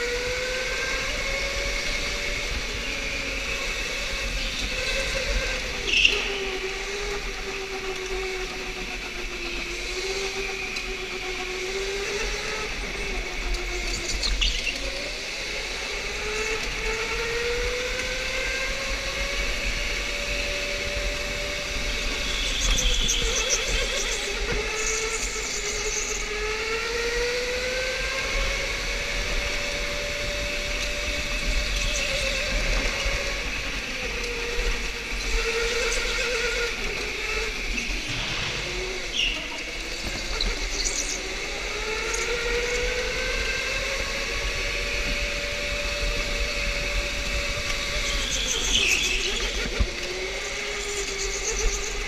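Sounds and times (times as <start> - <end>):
electric go-kart motor whining: 0.0 - 52.0
wind and tyre noise: 0.0 - 52.0.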